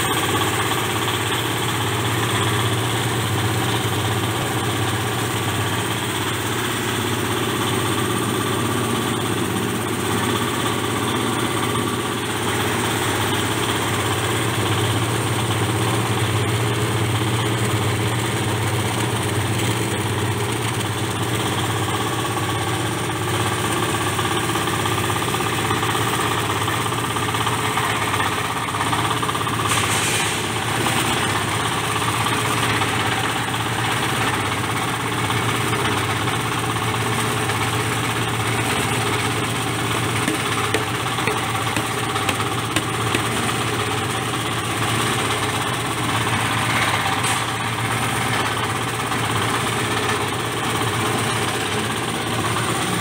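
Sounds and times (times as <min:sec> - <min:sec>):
grinding mill engine drone: 0:00.0 - 0:53.0.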